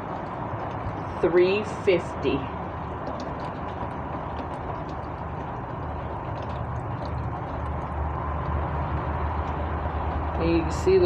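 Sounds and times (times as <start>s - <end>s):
drip ticks: 0.0s - 11.0s
steady rain falling: 0.0s - 11.0s.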